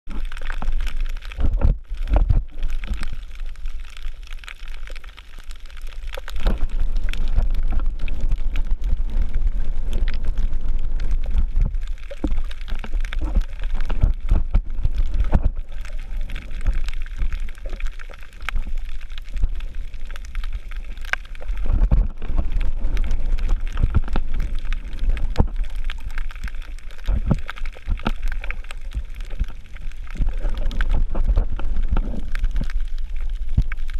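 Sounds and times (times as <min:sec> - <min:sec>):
sharp clicks and crackles: 0:00.1 - 0:33.9
underwater rumble of moving water: 0:00.1 - 0:33.9.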